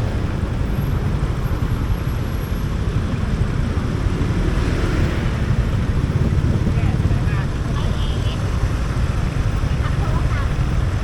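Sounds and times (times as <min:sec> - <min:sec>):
city traffic: 0:00.0 - 0:11.0
motorcycle engine rumble: 0:00.1 - 0:11.0.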